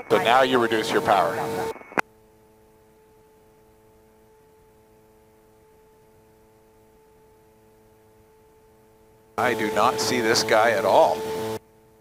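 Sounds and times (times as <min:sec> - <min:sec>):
faint electronic hum: 0:00.0 - 0:12.0
faint electronic tones: 0:00.0 - 0:12.0.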